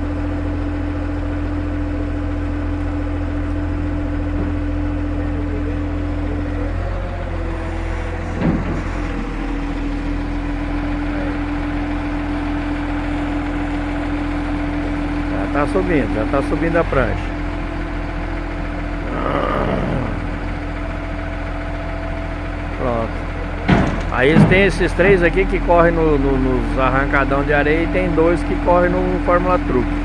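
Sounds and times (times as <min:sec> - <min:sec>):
heavy truck engine idling: 0:00.0 - 0:30.0.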